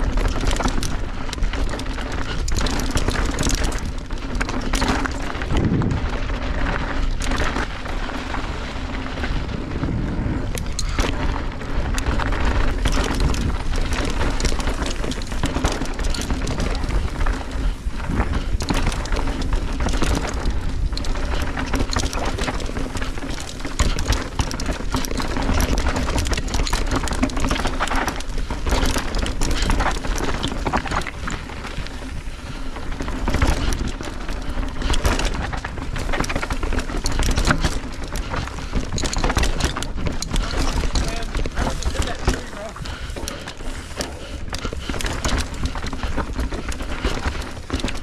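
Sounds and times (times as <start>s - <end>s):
bike knocking and rattling: 0.0s - 48.0s
tyres crunching over dirt and rocks: 0.0s - 48.0s
wind rumble on microphone: 0.0s - 48.0s.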